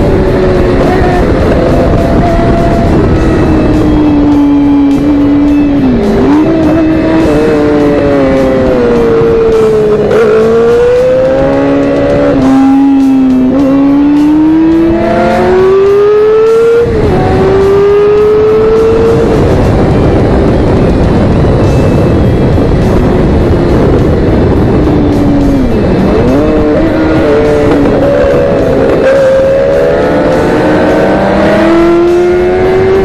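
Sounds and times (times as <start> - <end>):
motorcycle engine revving: 0.0 - 33.0
wind rush on microphone: 0.0 - 33.0.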